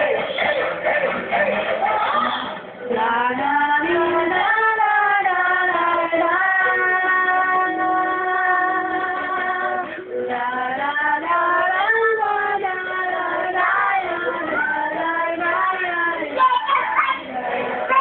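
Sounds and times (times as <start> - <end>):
high voice singing: 0.0 - 18.0.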